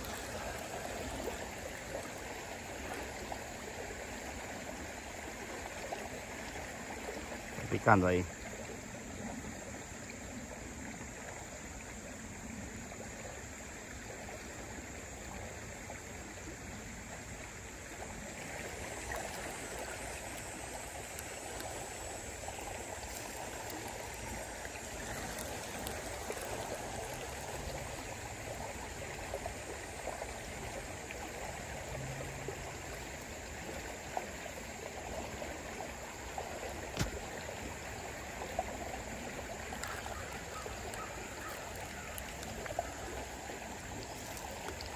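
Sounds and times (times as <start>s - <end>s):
river rushing: 0.0s - 11.8s, 17.0s - 44.9s.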